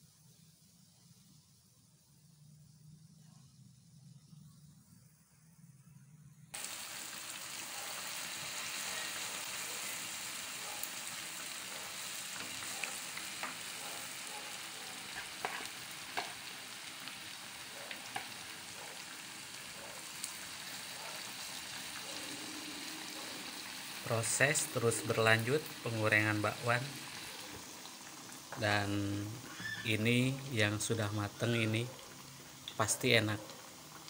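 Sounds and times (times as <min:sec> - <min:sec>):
fritters sizzling in hot oil: 0:06.6 - 0:34.0.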